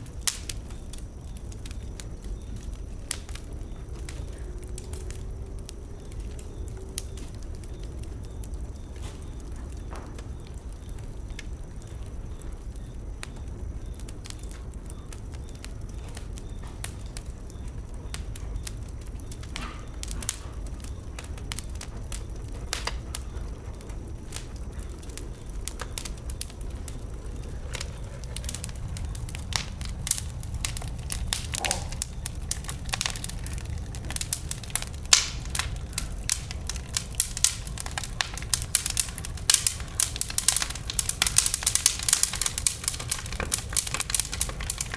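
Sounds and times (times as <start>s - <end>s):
bonfire crackling: 0.0s - 44.9s.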